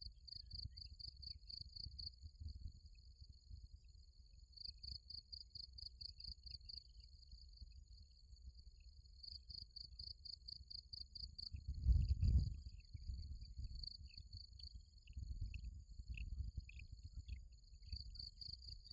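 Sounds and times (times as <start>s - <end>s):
insects chirping: 0.0s - 18.9s.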